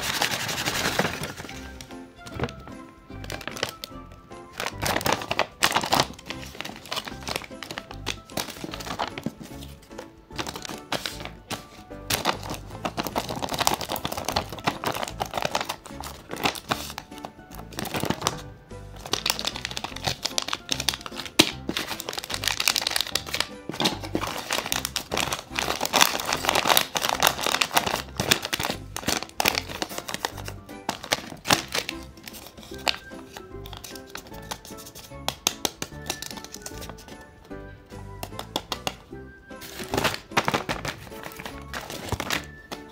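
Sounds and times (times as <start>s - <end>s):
paper clicking: 0.0s - 2.6s, 3.2s - 18.4s, 19.0s - 37.2s, 38.2s - 39.0s, 39.6s - 42.9s
paper crinkling and rustling: 0.0s - 3.9s, 4.5s - 37.2s, 39.6s - 42.9s
background music: 0.0s - 42.9s.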